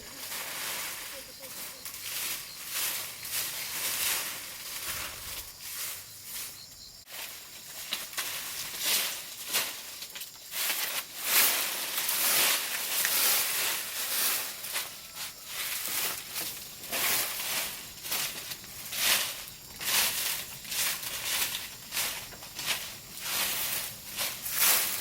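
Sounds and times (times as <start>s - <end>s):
dry foliage rustling: 0.0s - 25.0s.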